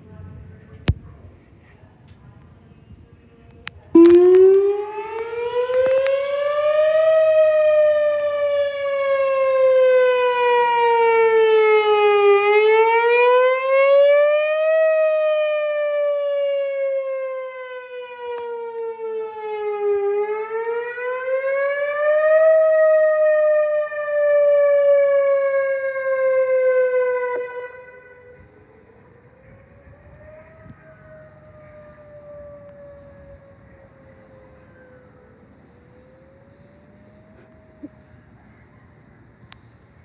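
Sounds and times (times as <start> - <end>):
civil defense siren wailing: 3.6 - 40.0.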